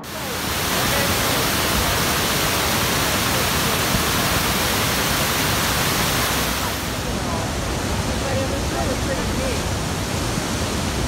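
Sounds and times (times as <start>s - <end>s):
loud rushing noise: 0.0s - 11.0s.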